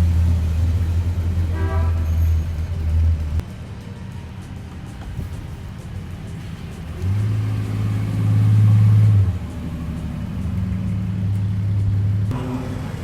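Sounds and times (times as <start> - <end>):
car engine driving by: 0.0 - 13.0.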